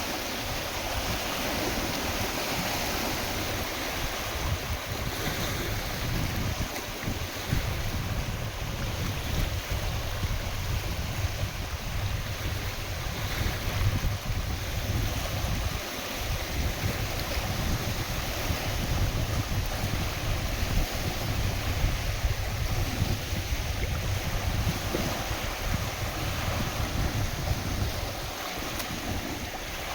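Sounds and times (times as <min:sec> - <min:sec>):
lake waves splashing: 0:00.0 - 0:29.9
wind buffeting microphone: 0:00.0 - 0:29.9.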